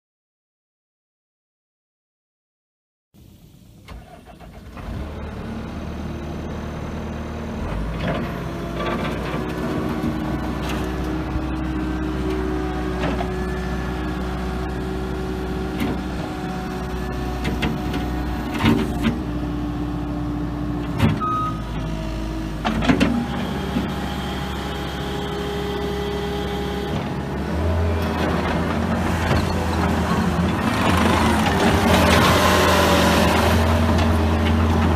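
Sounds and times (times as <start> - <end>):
diesel engine running: 3.9 - 34.9.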